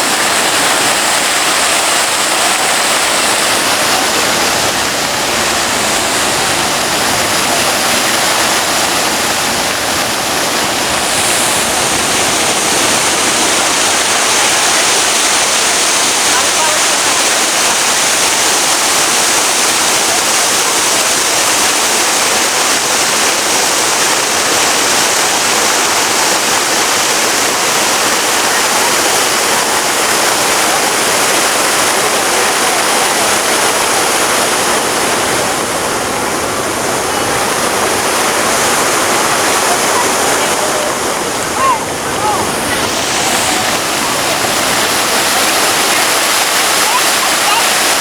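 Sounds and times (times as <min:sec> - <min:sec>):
splashing water rushing: 0:00.0 - 0:48.0.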